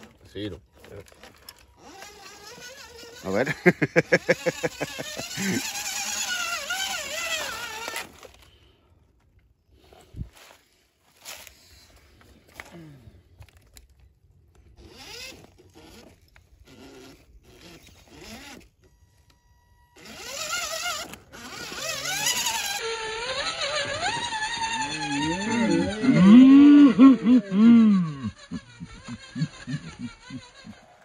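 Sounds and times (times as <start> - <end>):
electric motor and gears whining: 0.0 - 31.0.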